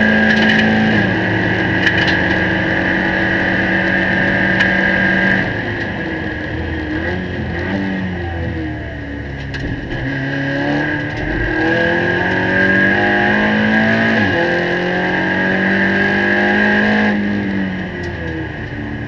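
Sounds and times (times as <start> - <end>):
steady high whine: 0.0 - 15.5
car engine accelerating hard: 0.0 - 19.0.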